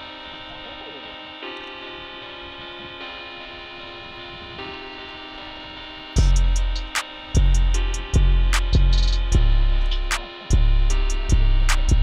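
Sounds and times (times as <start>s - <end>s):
soft held music chords: 0.0s - 12.0s.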